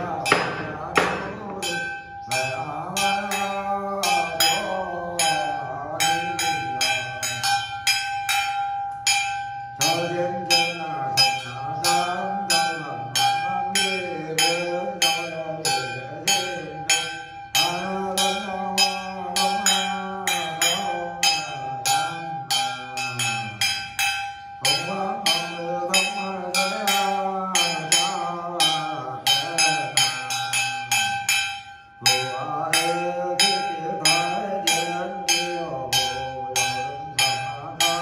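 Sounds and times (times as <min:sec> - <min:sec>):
person chanting: 0:00.0 - 0:38.0.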